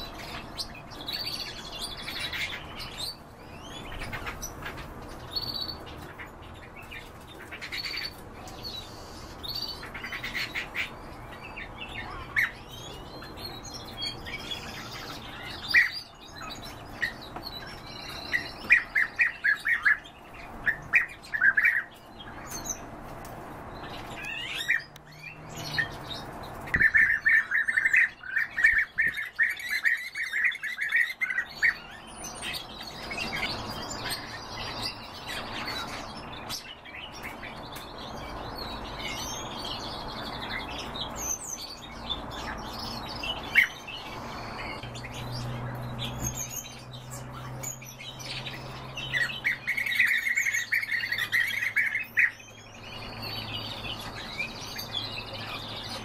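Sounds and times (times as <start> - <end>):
cage birds chirping: 0.0 - 56.0.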